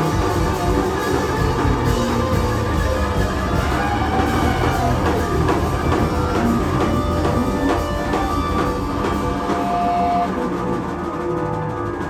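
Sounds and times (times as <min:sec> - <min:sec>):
bass guitar: 0:00.0 - 0:12.0
drum kit steady beat: 0:00.0 - 0:12.0
electric guitar: 0:00.0 - 0:12.0
keyboards: 0:00.0 - 0:12.0.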